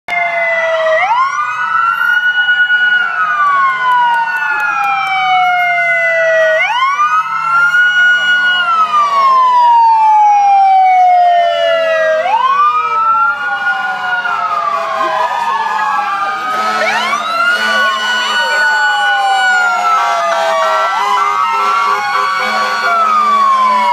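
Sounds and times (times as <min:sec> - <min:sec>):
fire truck siren wailing: 0:00.1 - 0:23.9
second siren: 0:00.1 - 0:23.9.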